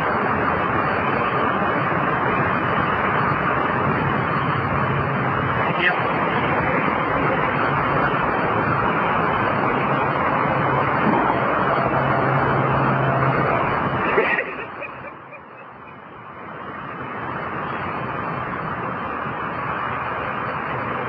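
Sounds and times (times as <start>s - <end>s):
highway traffic rushing: 0.0s - 21.0s.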